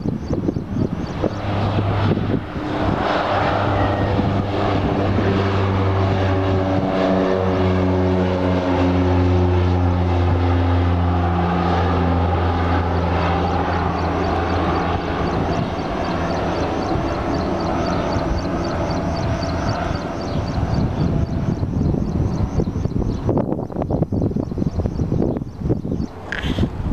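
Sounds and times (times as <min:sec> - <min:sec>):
propeller plane engine droning: 0:00.0 - 0:26.9.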